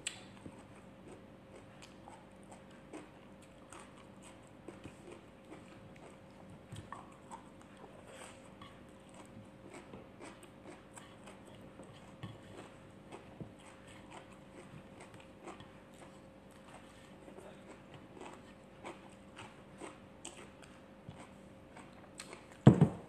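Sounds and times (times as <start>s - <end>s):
person chewing leaves: 0.0s - 22.6s
faint steady hum: 0.0s - 23.0s.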